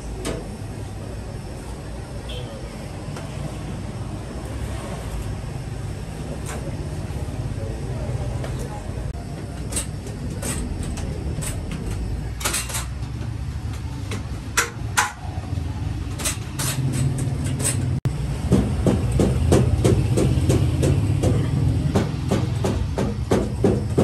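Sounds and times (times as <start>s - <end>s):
oven machine hum: 0.0s - 24.0s.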